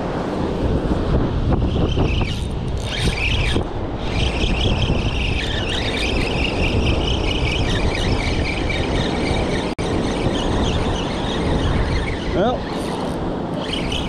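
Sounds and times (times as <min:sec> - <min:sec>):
wind rumble on microphone: 0:00.0 - 0:14.0
fishing reel whirring: 0:01.6 - 0:14.0.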